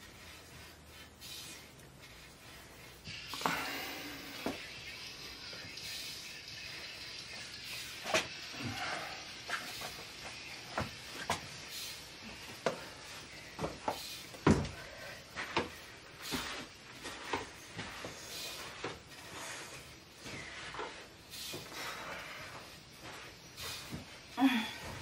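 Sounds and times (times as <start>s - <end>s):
shoes on concrete floor: 0.0s - 25.0s.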